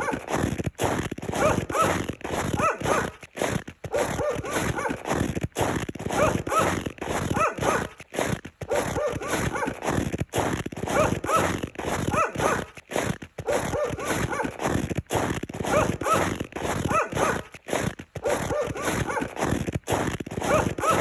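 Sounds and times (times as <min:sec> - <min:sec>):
footsteps crunching through snow: 0:00.0 - 0:21.0.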